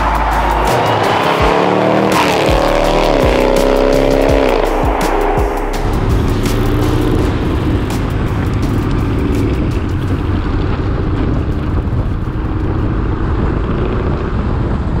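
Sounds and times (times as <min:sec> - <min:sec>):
cars driving at speed: 0:00.0 - 0:15.0
engine pulling away: 0:00.0 - 0:15.0.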